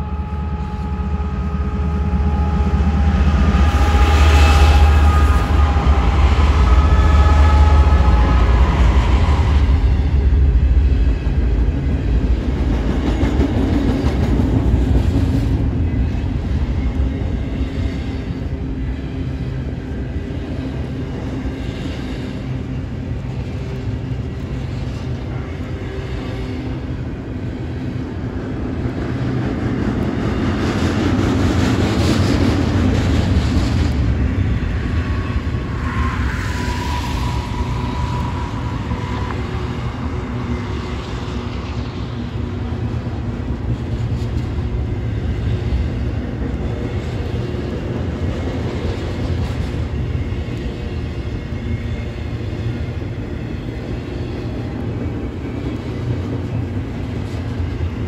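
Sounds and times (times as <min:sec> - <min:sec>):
diesel locomotive rumble: 0:00.0 - 0:58.0
steel wheels rumbling on rail: 0:00.0 - 0:58.0.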